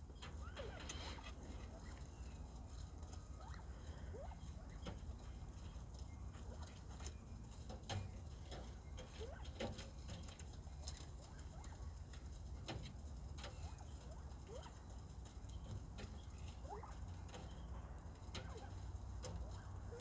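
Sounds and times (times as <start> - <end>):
light clicks and scratches: 0.1 - 20.0
quail peeping and chirping: 0.2 - 20.0.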